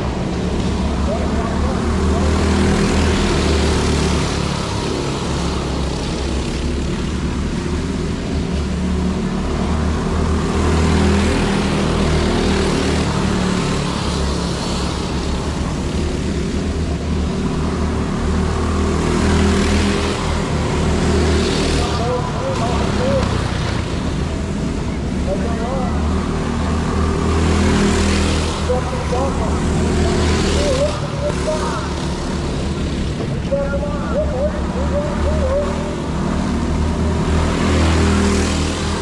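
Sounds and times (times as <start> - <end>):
go-kart engines racing: 0.0 - 39.0.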